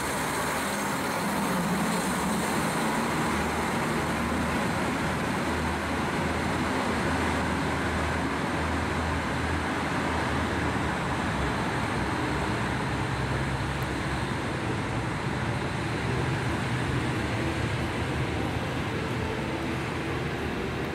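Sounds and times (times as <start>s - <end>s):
diesel railcar engine humming: 0.0s - 20.9s.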